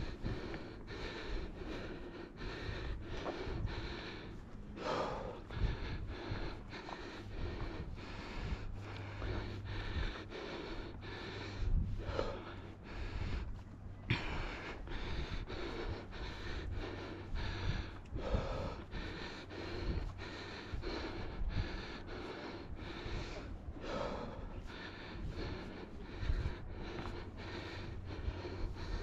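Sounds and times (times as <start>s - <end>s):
heavy breathing through face mask: 0.0s - 29.0s.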